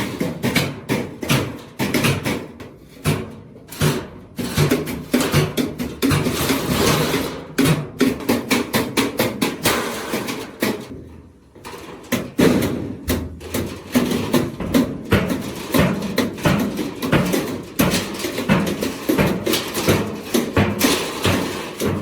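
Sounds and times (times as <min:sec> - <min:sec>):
hammer blows on sheet steel: 0:00.0 - 0:10.9, 0:12.1 - 0:22.0.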